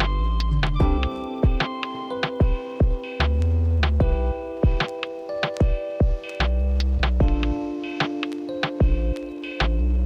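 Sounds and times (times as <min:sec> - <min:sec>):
electronic music with synth: 0:00.0 - 0:10.0.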